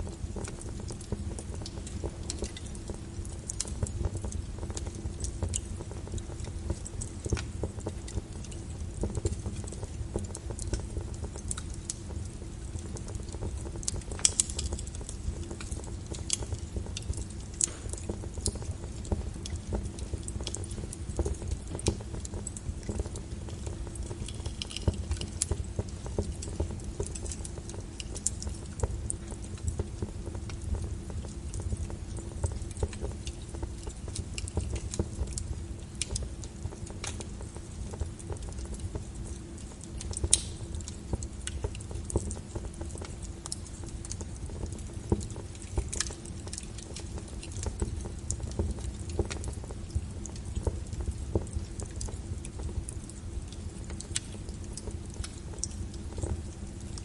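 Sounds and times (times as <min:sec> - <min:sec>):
wood logs crackling and popping: 0:00.0 - 0:57.0.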